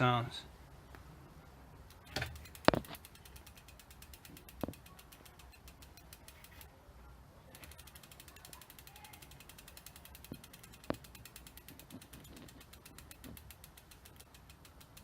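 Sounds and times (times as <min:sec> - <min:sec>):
bike hub clicking ratchet: 0:01.9 - 0:06.7, 0:07.5 - 0:15.0.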